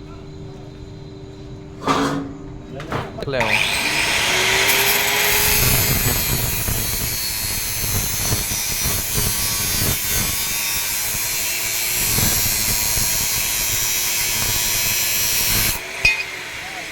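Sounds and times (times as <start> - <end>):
grinder machine running: 3.3 - 16.9.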